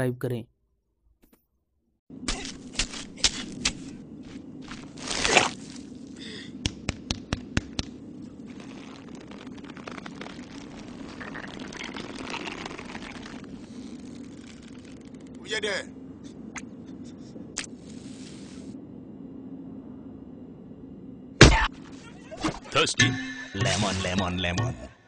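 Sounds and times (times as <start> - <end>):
low steady hiss and hum: 2.1 - 23.1.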